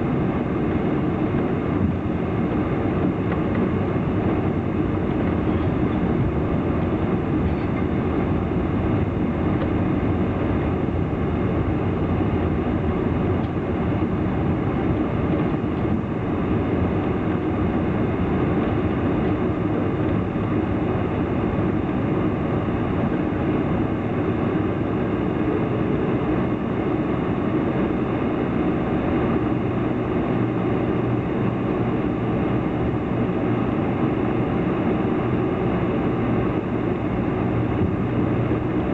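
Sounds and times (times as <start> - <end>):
jet engines at low power: 0.0 - 38.9.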